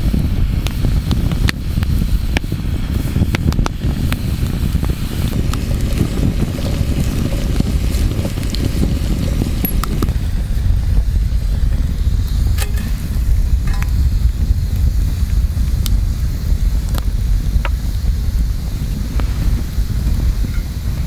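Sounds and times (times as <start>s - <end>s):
campfire crackling and popping: 0.0s - 21.0s
low rumble: 0.0s - 21.0s.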